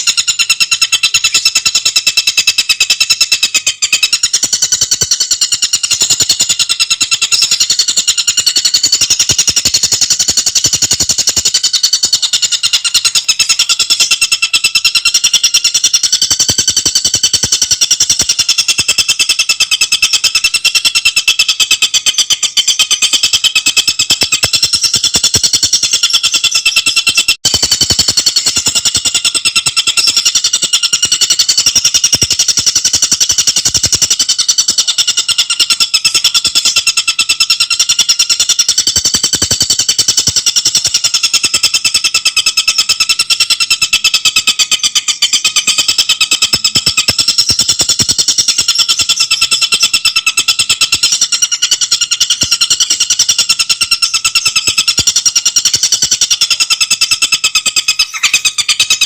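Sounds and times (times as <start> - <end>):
bird singing rapid high notes: 0.0 - 39.6, 40.9 - 59.0.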